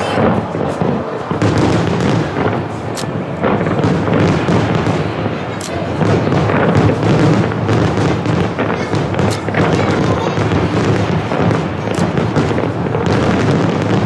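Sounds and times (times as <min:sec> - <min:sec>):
firework shell bursts and crackling: 0:00.0 - 0:14.0
sharp firework cracks: 0:00.0 - 0:14.0.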